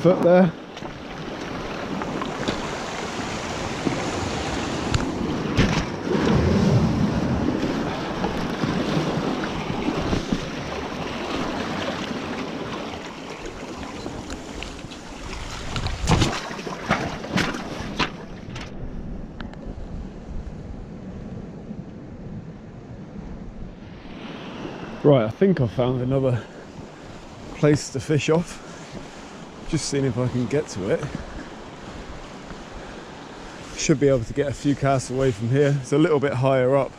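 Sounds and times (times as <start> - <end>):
waves breaking on rocky shore: 0.0 - 18.7, 25.8 - 36.9.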